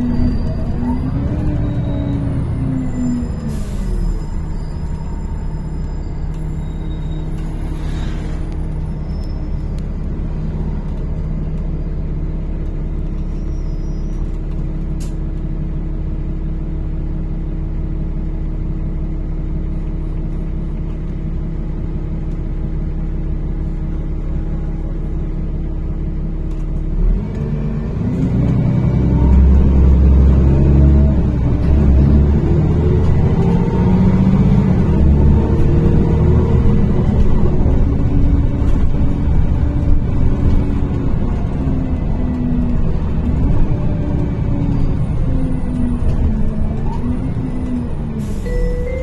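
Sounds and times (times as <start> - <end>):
bus engine hum: 0.0 - 49.0.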